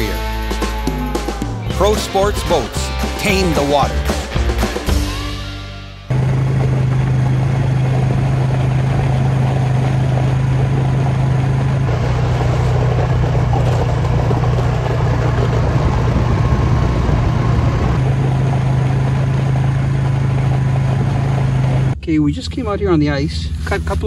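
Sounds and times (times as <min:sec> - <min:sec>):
atv engine droning: 0:00.0 - 0:24.0.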